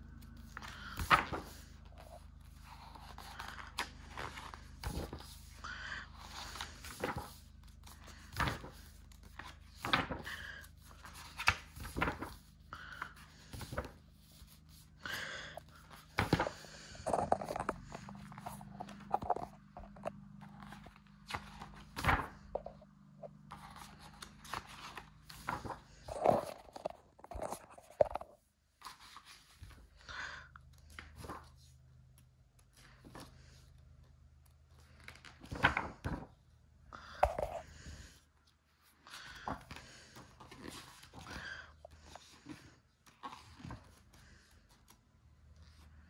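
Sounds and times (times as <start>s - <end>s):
book pages turning: 0.0s - 29.9s, 30.7s - 36.3s, 37.1s - 38.2s, 38.8s - 46.0s
paper rustling and crinkling: 0.1s - 29.9s, 34.7s - 36.3s, 38.8s - 45.0s.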